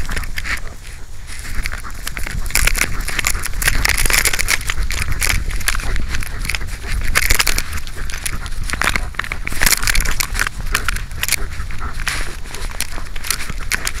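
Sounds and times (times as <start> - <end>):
harness rubbing on microphone: 0.0 - 14.0
rustling through grass and brush: 0.0 - 14.0.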